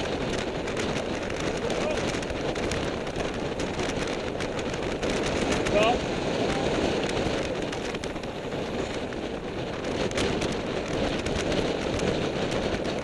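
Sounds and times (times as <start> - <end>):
bicycle tyre and road noise: 0.0 - 13.0
wind rushing over microphone: 0.0 - 13.0.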